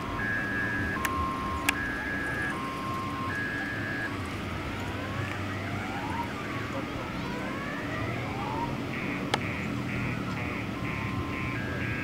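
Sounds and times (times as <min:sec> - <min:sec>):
faint rising siren wails: 0:00.0 - 0:12.0
two-tone siren: 0:00.0 - 0:12.0.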